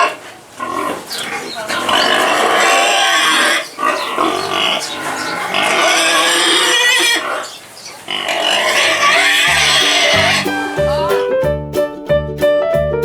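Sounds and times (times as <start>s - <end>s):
piglets squealing: 0.0s - 11.2s.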